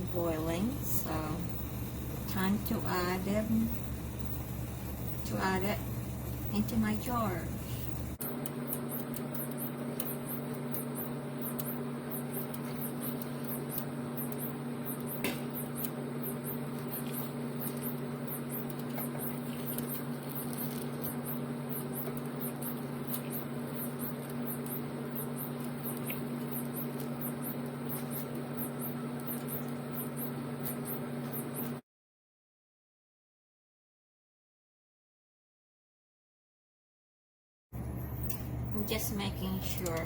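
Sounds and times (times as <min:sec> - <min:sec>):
steady low hum: 0:00.0 - 0:31.8, 0:37.8 - 0:40.0.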